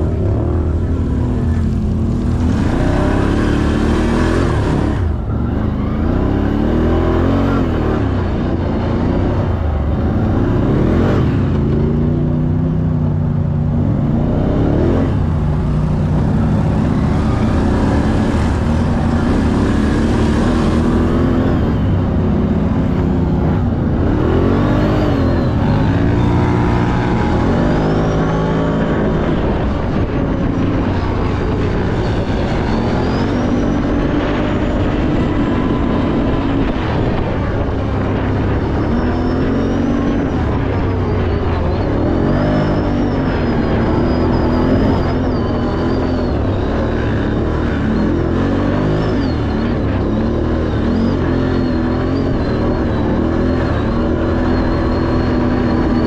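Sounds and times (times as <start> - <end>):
car engine revving while driving: 0.0 - 56.0.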